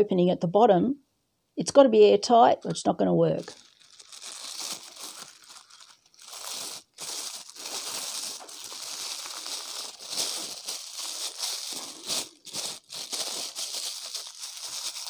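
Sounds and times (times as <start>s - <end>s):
plastic bag crinkling: 2.6s - 15.0s.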